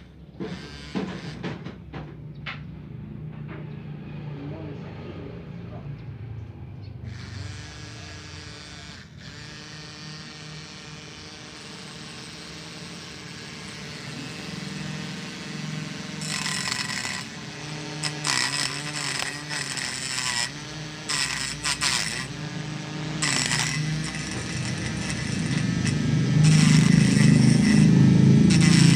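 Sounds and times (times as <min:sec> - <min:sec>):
small motor whining: 0:00.0 - 0:01.8, 0:07.0 - 0:28.9.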